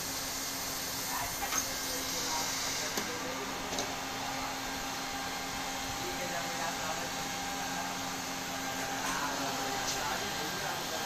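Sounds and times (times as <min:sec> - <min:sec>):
hot-air blower hissing: 0:00.0 - 0:11.0.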